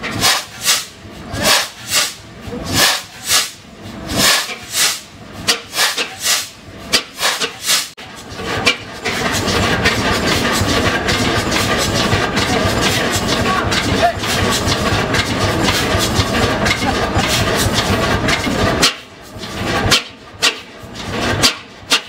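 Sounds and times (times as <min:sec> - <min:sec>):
diesel engine starting and running: 0:00.0 - 0:22.0.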